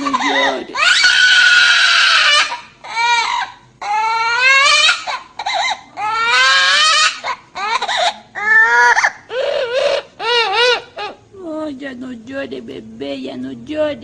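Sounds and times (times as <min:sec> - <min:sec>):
parrot mimicking baby crying: 0:00.0 - 0:11.3.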